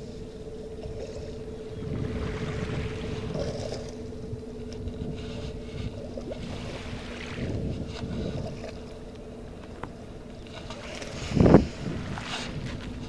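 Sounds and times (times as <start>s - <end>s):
steady low hum: 0.0s - 13.0s
wind and water: 0.0s - 13.0s
wind buffeting microphone: 0.6s - 13.0s.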